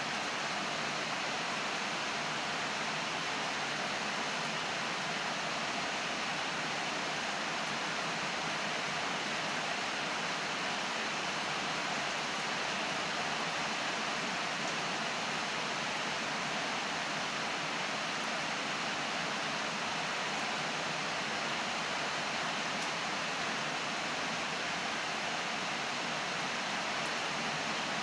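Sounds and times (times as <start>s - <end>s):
heavy rain on a metal roof: 0.0s - 28.0s.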